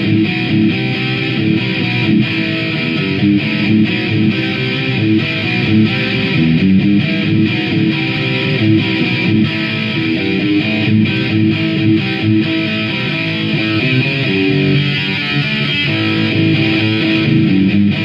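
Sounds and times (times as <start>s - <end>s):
electric guitar riff: 0.0s - 18.0s.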